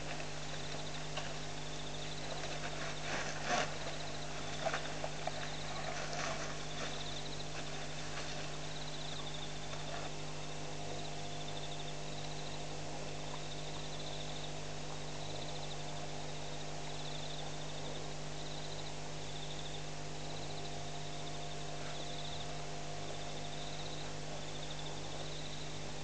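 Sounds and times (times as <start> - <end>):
cricket chirping: 0.0 - 26.0
hiss and electrical hum: 0.0 - 26.0.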